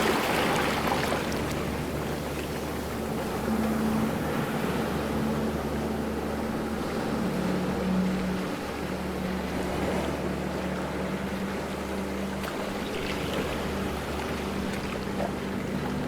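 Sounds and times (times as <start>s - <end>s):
ocean waves washing: 0.0s - 16.0s.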